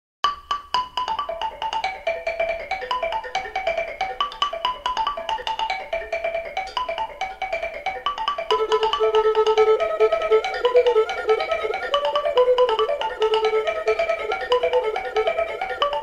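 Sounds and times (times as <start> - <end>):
xylophone melody: 0.2 - 16.0.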